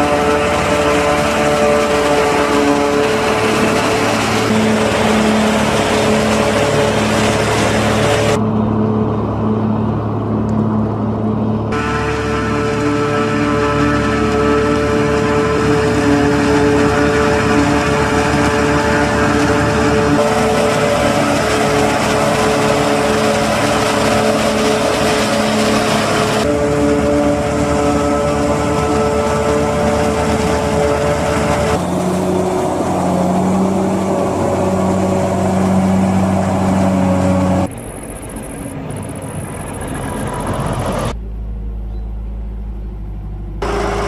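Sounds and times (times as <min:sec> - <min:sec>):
harvester engine hum: 0:00.0 - 0:44.0.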